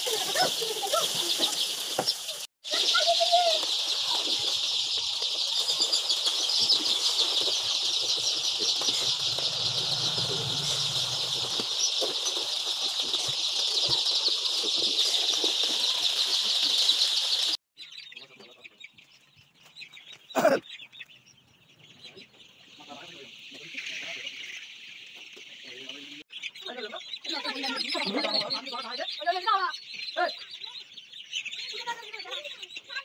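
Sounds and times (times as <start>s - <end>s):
hens chattering: 0.0s - 16.8s, 19.9s - 33.0s.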